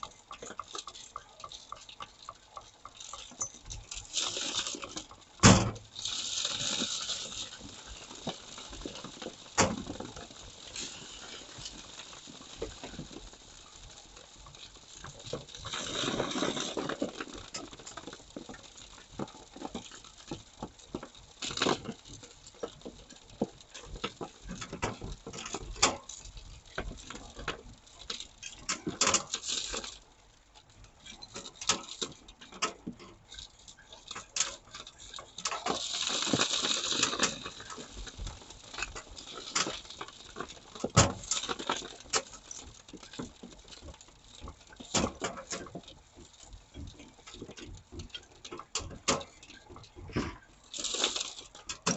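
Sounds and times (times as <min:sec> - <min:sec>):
soil and stones clattering on metal sheet: 0:00.3 - 0:30.1, 0:30.8 - 0:51.9.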